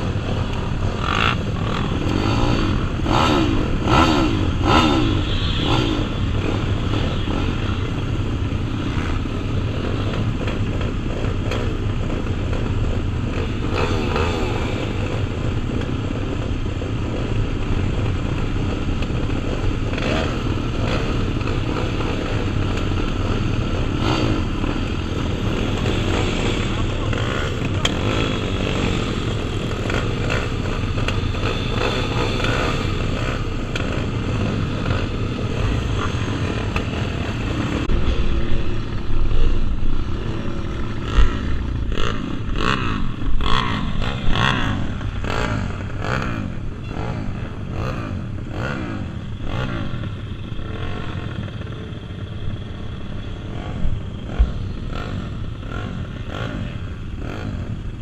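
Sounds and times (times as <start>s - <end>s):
motorbike engines revving: 0.0s - 58.0s.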